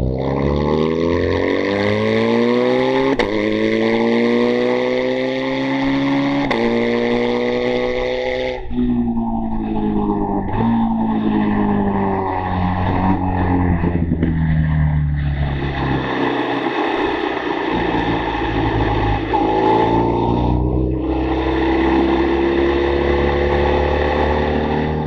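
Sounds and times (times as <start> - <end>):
motorcycle engine: 0.0 - 25.0.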